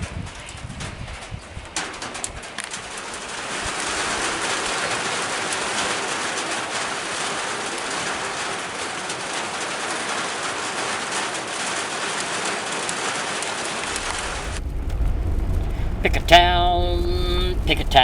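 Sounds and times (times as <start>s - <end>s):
heavy rain hissing: 2.4s - 18.0s.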